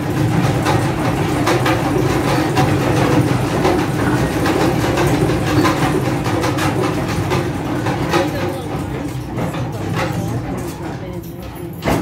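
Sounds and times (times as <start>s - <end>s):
rail car rumbling: 0.0s - 12.0s.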